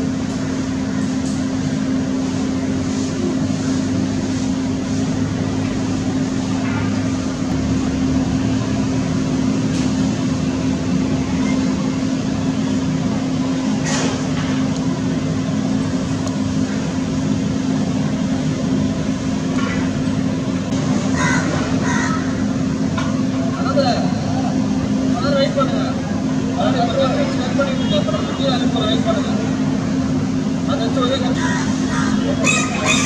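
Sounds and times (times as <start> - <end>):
machine drone: 0.0 - 33.0.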